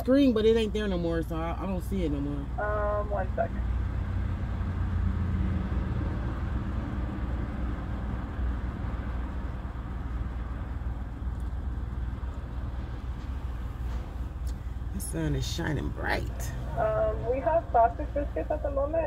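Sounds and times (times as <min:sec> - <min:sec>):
car engine idling: 0:00.0 - 0:05.0, 0:06.0 - 0:19.0.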